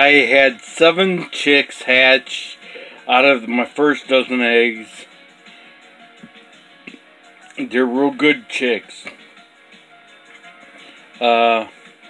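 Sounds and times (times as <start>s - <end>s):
faint music of held tones: 0.0s - 12.0s.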